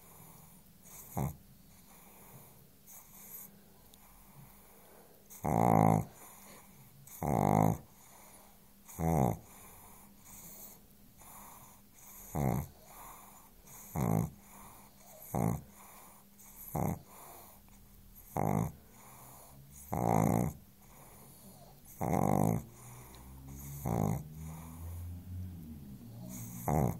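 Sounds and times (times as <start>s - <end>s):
dog snoring: 0.0s - 4.7s, 5.3s - 26.9s
quiet breathing: 0.0s - 26.9s.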